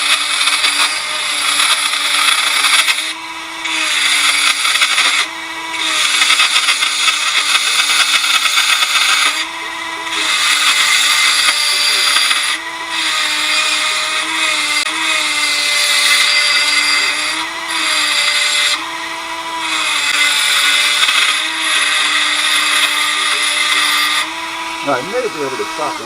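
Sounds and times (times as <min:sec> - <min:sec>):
bit grinding into metal: 0:00.0 - 0:26.0
power tool motor whine: 0:00.0 - 0:26.0.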